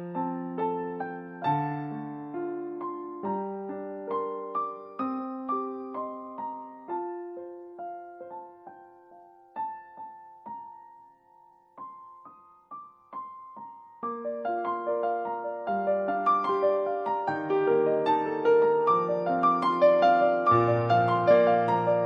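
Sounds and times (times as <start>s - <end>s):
gentle piano piece: 0.0s - 22.0s.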